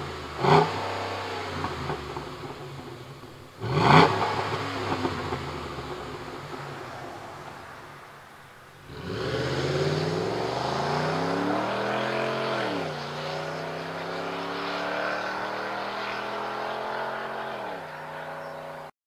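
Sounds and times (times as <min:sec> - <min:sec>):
truck engine accelerating: 0:00.0 - 0:18.9.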